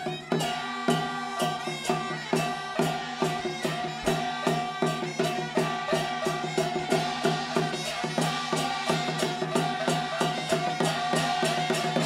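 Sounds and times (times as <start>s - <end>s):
percussion struck steadily: 0.0s - 12.0s.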